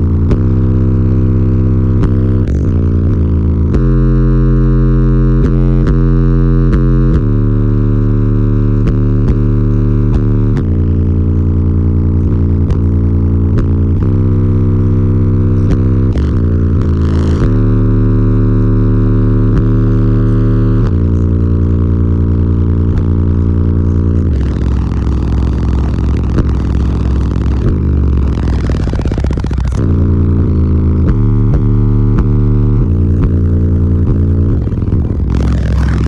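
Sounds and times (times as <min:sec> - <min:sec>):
deep bass notes from car subwoofers: 0:00.0 - 0:36.0.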